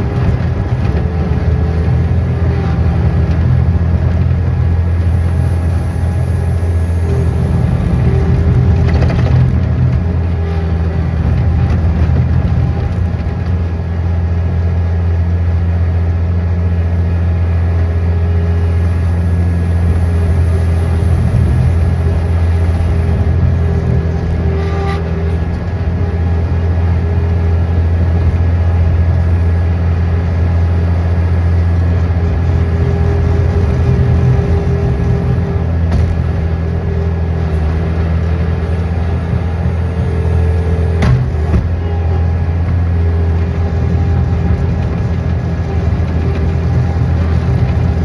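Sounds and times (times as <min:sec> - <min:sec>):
large engine running steadily: 0:00.0 - 0:48.0.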